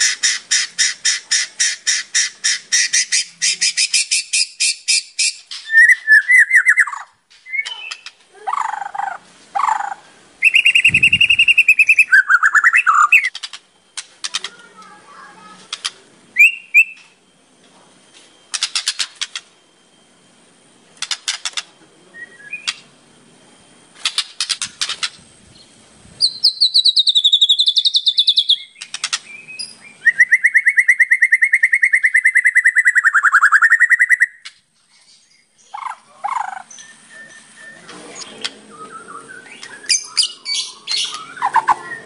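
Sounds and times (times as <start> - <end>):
songbird singing: 0.0 - 42.0.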